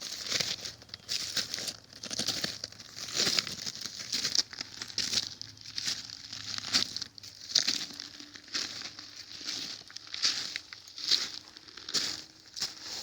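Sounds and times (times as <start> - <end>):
footsteps crunching on dry ground: 0.0 - 13.0.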